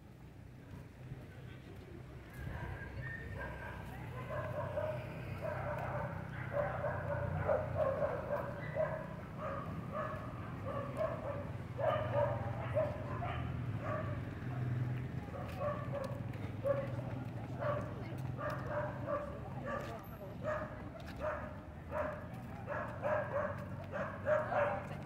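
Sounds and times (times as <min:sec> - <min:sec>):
dog barking: 0:02.6 - 0:16.9, 0:17.6 - 0:25.0.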